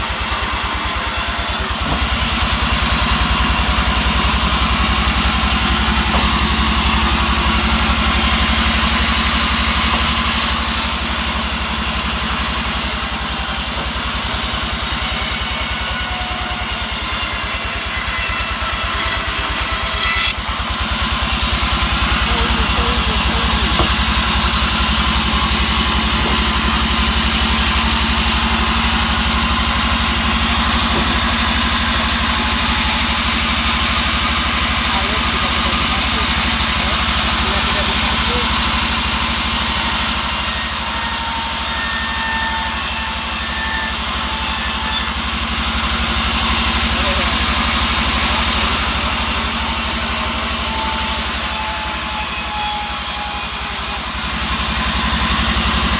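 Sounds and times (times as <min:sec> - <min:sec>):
sawmill engine hum: 0:00.0 - 0:55.9.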